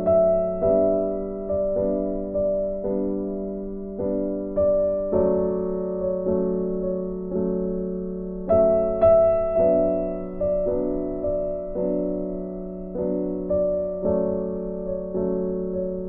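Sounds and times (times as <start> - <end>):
slow keyboard chords: 0.0 - 16.0.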